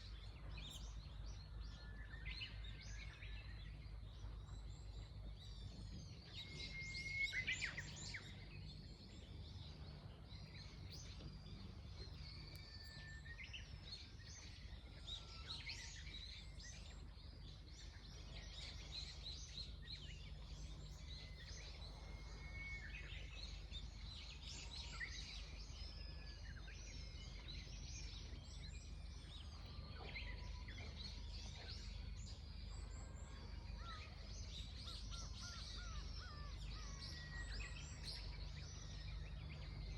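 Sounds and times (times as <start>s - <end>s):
birds chirping and singing: 0.0s - 39.9s
faint low rumble: 0.0s - 39.9s.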